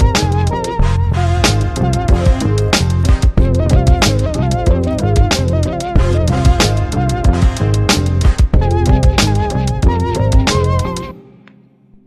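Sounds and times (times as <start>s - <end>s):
upbeat background music: 0.0s - 11.6s.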